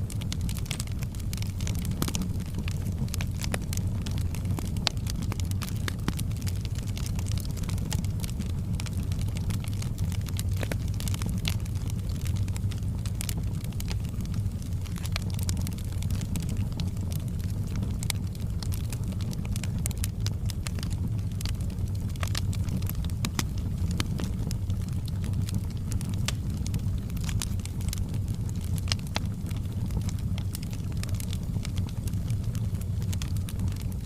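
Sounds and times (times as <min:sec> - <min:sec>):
bonfire crackling and popping: 0:00.0 - 0:34.0
flames rumbling: 0:00.0 - 0:34.0.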